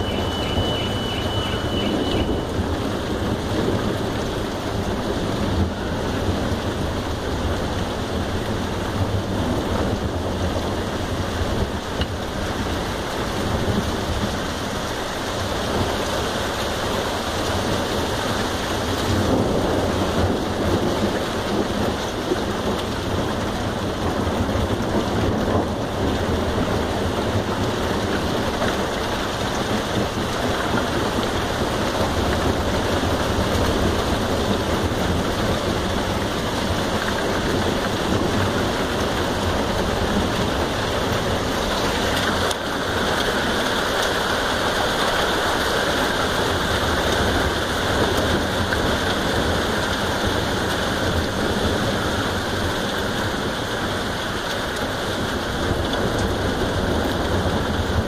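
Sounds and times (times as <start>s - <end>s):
heavy rain falling: 0.0s - 58.0s
thunder rumbling: 0.0s - 58.0s.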